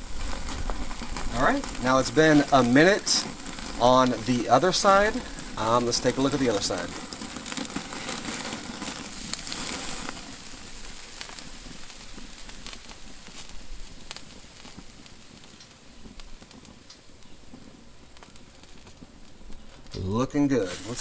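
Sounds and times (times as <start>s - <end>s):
fat crackling: 0.0s - 21.0s
steak sizzling over charcoal: 0.0s - 21.0s.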